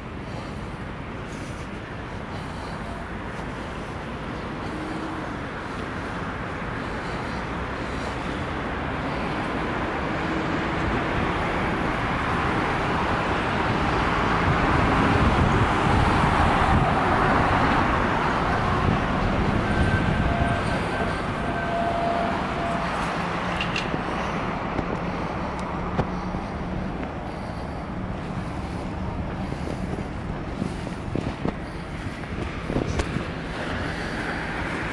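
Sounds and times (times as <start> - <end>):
vehicle passing: 0.0 - 34.9.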